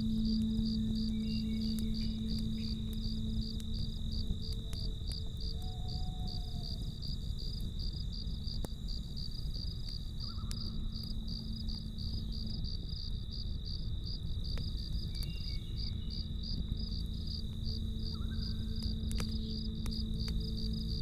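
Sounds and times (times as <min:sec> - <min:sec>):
campfire crackling: 0:00.0 - 0:21.0
crickets chirping: 0:00.0 - 0:21.0
high insect trill: 0:00.0 - 0:21.0
soft low drone: 0:00.0 - 0:21.0.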